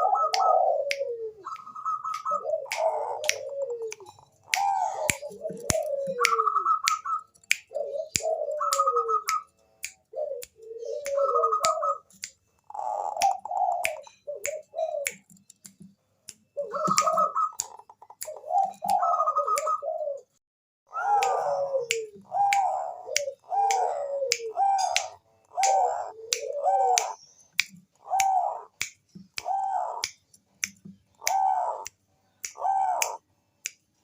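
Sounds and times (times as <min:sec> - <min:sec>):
dove cooing: 0:00.0 - 0:09.5, 0:10.1 - 0:15.3, 0:16.6 - 0:27.2, 0:28.0 - 0:30.0, 0:31.2 - 0:31.9, 0:32.5 - 0:33.2
sharp clicks: 0:00.3 - 0:12.6, 0:13.2 - 0:19.0, 0:21.2 - 0:33.9.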